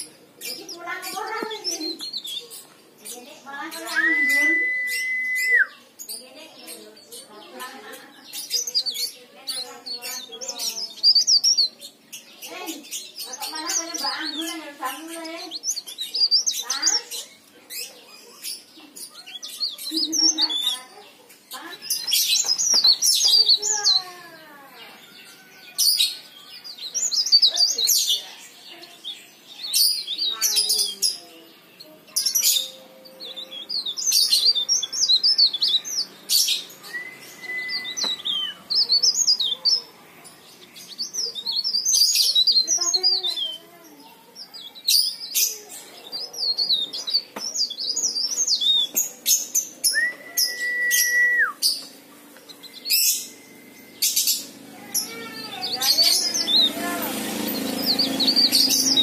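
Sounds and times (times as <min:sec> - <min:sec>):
warbler twittering song: 0:00.0 - 0:59.0.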